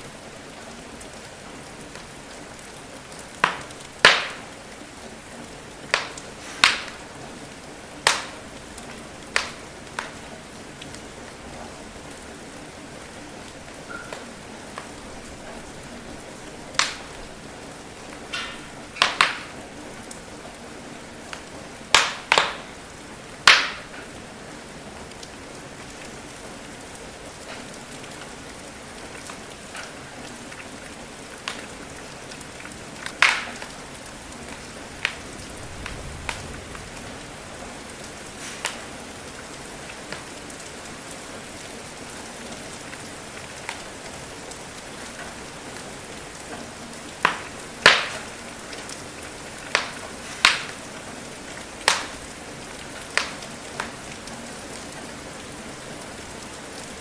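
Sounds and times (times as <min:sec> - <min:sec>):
steady rain: 0:00.0 - 0:57.0
wood fire crackling and popping: 0:01.0 - 0:11.4, 0:13.6 - 0:24.3, 0:26.9 - 0:40.9, 0:42.4 - 0:45.8, 0:46.4 - 0:54.5.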